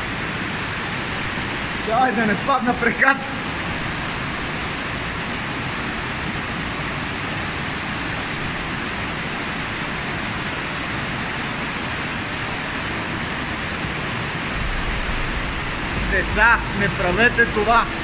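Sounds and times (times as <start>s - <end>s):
river water rushing through tunnel: 0.0s - 18.0s.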